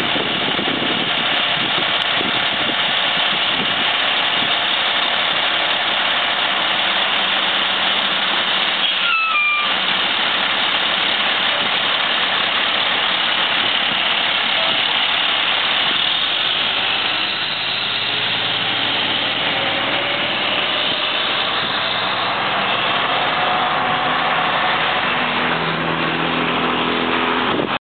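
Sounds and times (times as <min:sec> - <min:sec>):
diesel engine idling and driving: 0:00.0 - 0:27.8.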